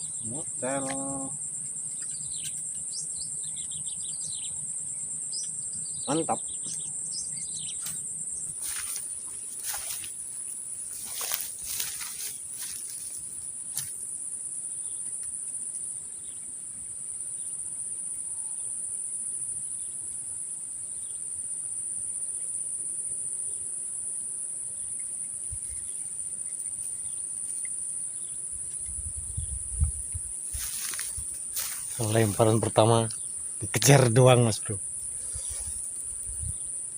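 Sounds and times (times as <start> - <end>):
insects chirping: 0.0 - 36.9.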